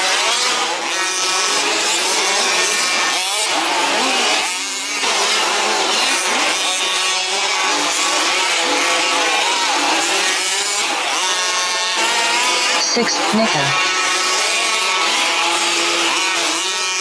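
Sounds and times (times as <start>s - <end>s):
small two-stroke engines revving: 0.0s - 17.0s.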